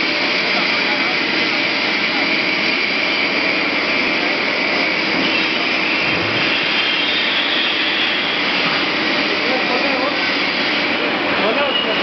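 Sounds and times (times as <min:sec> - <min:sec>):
industrial machinery rushing noise: 0:00.0 - 0:12.0.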